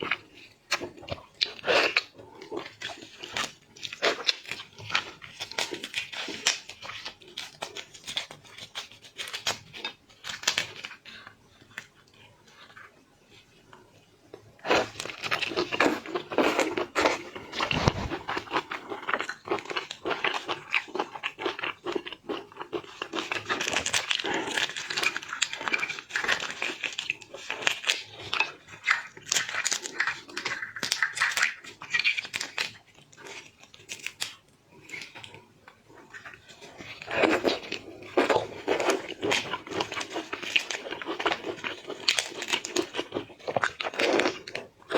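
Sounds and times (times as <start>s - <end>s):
chewing: 0.0s - 44.9s.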